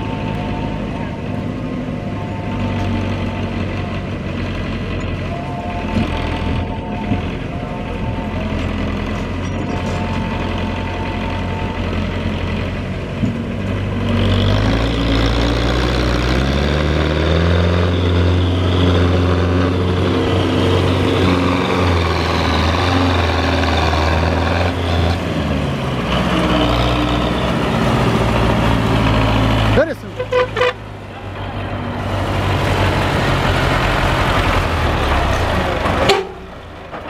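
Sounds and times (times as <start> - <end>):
tractor engine revving under load: 0.0 - 37.0.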